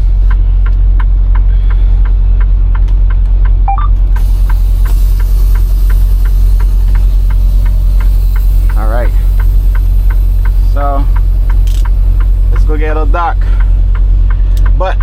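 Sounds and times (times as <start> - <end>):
diesel engine idling: 0.0 - 15.0
regular ticking: 0.0 - 15.0.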